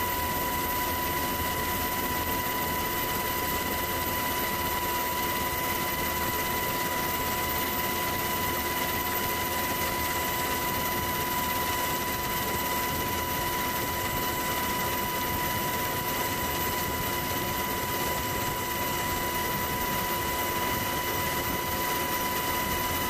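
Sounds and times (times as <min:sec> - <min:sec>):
helicopter turbine and rotor drone: 0:00.0 - 0:23.0.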